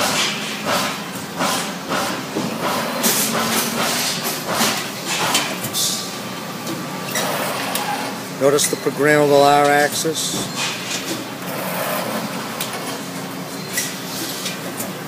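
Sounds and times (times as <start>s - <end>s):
press brake machine noise: 0.0s - 15.0s.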